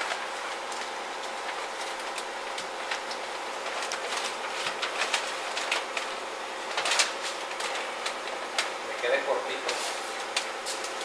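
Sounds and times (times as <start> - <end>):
paper and plastic sheeting crinkling: 0.0 - 11.0
steady background hum: 0.0 - 11.0.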